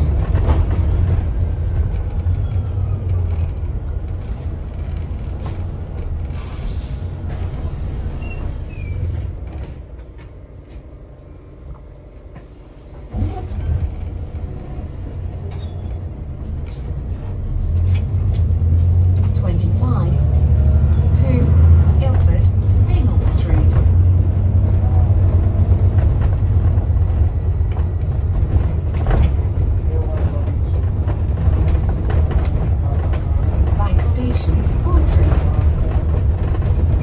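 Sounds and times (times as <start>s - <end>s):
bus drivetrain and road rumble: 0.0s - 37.0s.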